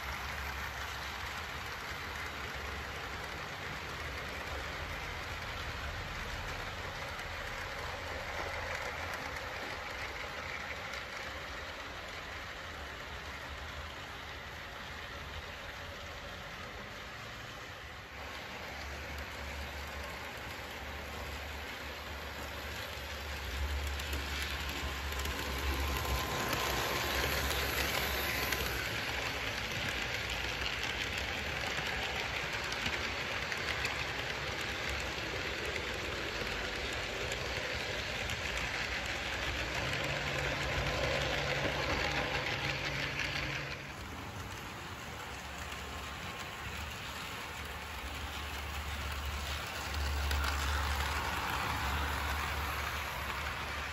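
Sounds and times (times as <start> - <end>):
model train wheels clattering: 0.0 - 53.9.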